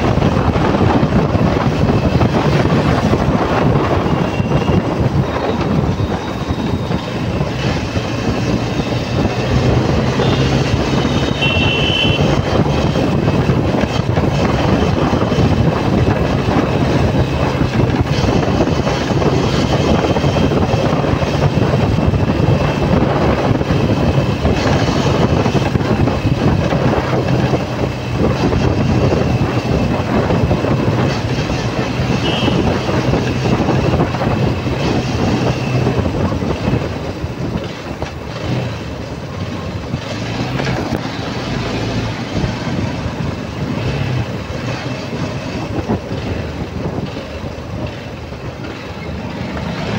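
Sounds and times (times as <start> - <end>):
wind on microphone: 0.0 - 49.9.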